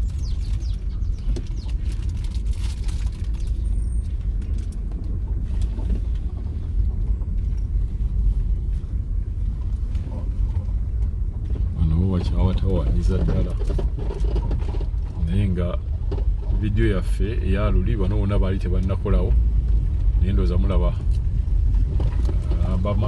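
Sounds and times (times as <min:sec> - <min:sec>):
vehicle rumble from inside: 0:00.0 - 0:23.0.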